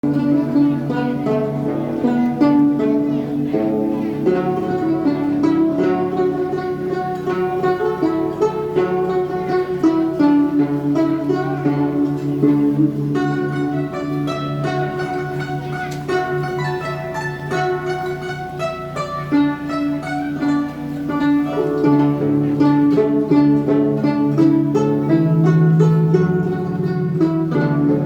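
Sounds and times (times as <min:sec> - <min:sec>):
plucked zither notes: 0:00.0 - 0:28.0.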